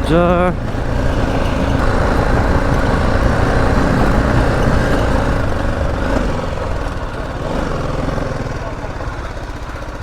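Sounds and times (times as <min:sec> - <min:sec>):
motorcycle engine running: 0:00.0 - 0:10.0
road and wind noise: 0:00.0 - 0:10.0.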